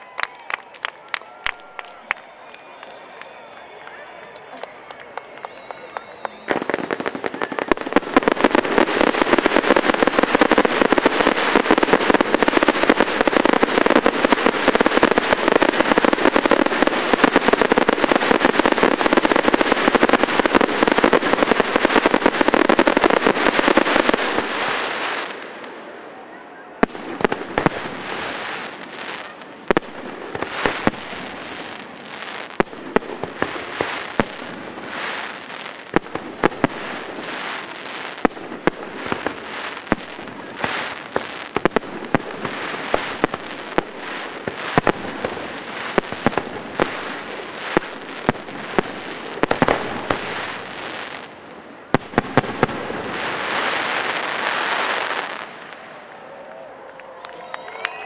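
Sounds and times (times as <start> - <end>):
fireworks bangs: 0.0 - 56.4
fireworks crackling: 0.0 - 58.0.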